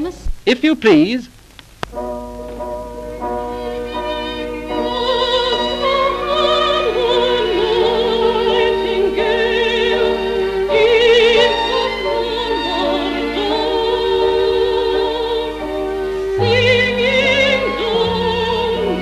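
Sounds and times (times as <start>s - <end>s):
instrumental accompaniment: 0.0s - 19.0s
woman singing operatically: 3.6s - 19.0s.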